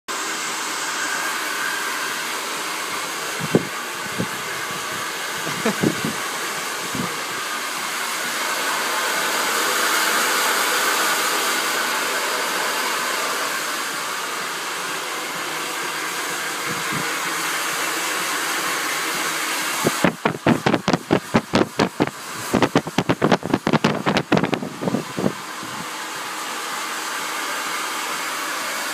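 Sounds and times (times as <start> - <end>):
hair dryer blowing: 0.1 - 28.9.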